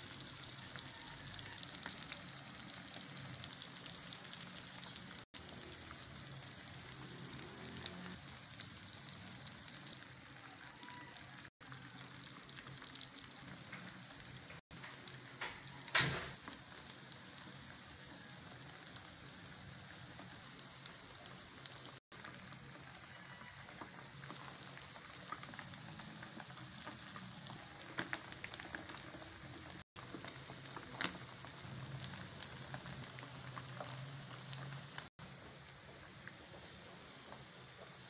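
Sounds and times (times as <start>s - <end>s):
fish deep-frying in oil: 0.0s - 38.0s.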